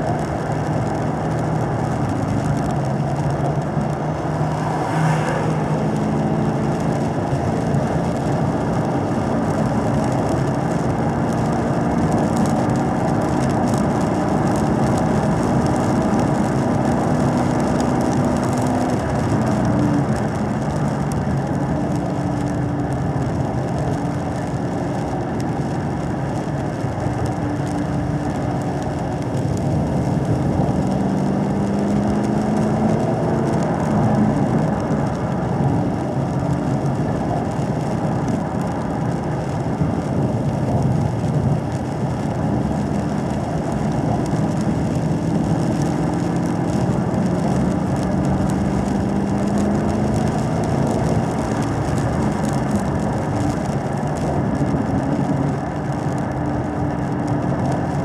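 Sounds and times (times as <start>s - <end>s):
car engine at mid revs: 0.0s - 58.0s.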